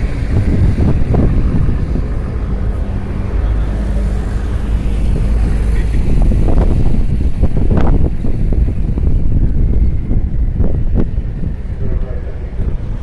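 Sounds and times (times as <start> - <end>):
faint engine hum: 0.0 - 13.0
low rumble of ferry engines: 0.0 - 13.0
wind buffeting microphone: 0.0 - 13.0.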